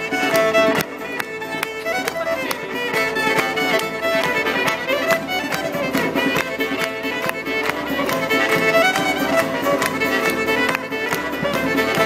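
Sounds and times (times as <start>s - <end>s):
fiddle-led live music: 0.0s - 12.0s.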